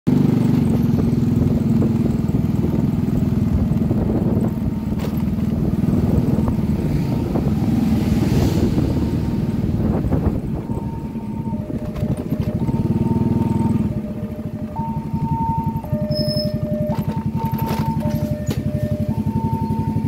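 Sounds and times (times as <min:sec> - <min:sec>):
motorcycle engine running: 0:00.1 - 0:20.0.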